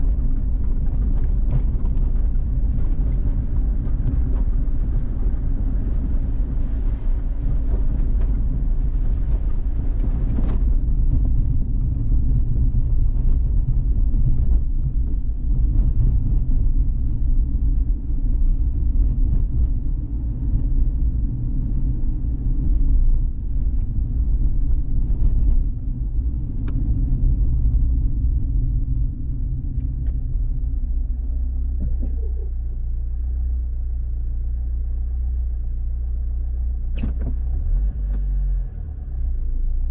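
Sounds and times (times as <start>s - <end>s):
car engine rumble: 0.0s - 39.9s
tyre noise on road: 0.0s - 39.9s.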